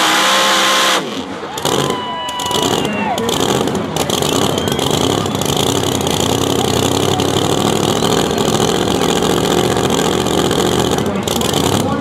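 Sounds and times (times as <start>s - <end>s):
truck engine idling: 1.2s - 12.0s.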